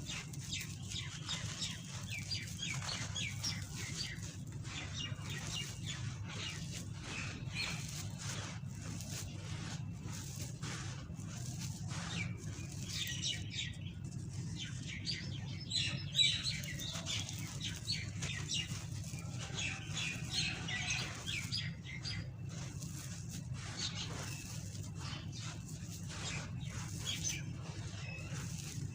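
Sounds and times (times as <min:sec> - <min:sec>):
gritty crunching and crackling: 0:00.0 - 0:28.9
steady low hum: 0:00.0 - 0:28.9.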